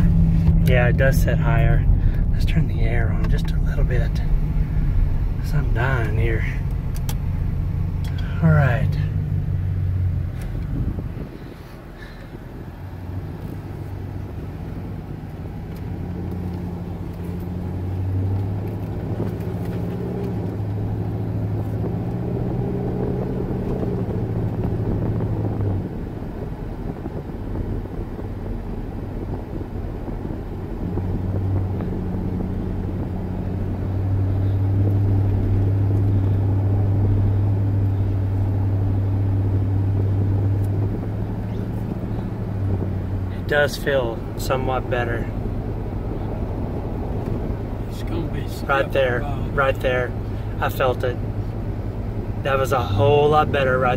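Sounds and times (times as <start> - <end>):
car engine and road drone: 0.0 - 53.9.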